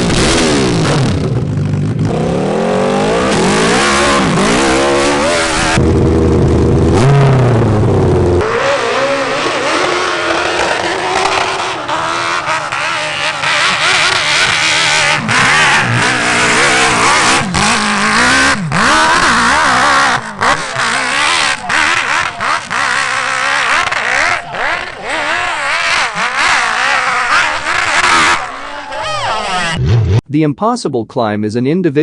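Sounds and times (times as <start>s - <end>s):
dirt bike engine revving: 0.0s - 30.3s.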